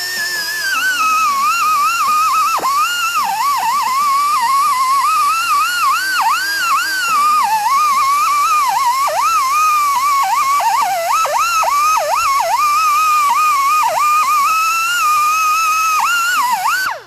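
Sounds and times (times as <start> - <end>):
angle grinder cutting metal: 0.0 - 17.0.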